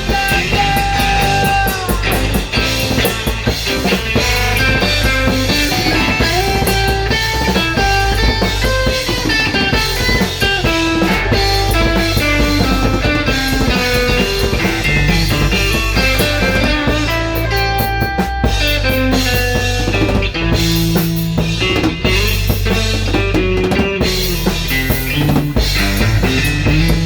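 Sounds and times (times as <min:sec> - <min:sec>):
bass guitar: 0:00.0 - 0:27.0
drum kit: 0:00.0 - 0:27.0
rock guitar melody: 0:00.0 - 0:27.0.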